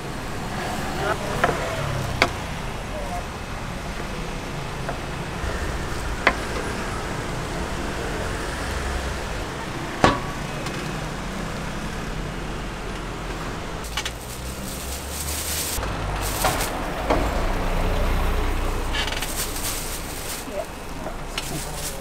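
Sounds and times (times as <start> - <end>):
street traffic noise: 0.0 - 22.0.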